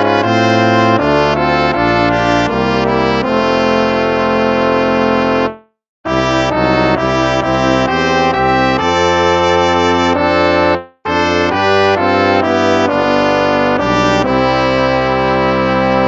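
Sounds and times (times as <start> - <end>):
instrumental hymn music: 0.0 - 16.0.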